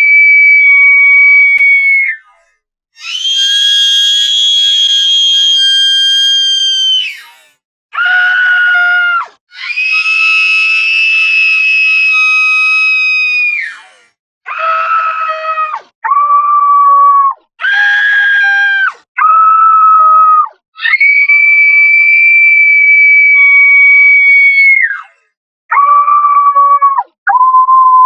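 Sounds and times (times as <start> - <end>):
shrill screams: 0.0 - 27.0.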